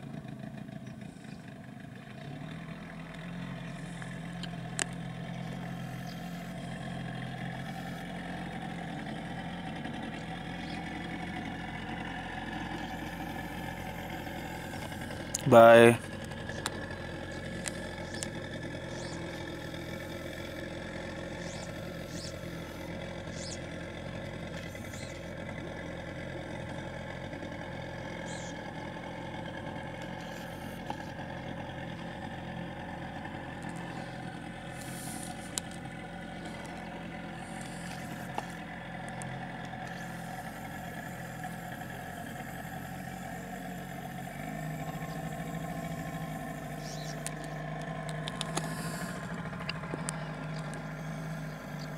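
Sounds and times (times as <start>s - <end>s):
engine running steadily: 0.0s - 51.9s.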